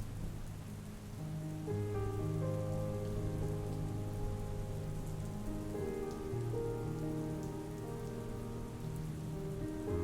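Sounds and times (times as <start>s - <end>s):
steady rain falling: 0.0s - 10.0s
ambient music pad: 0.1s - 10.0s.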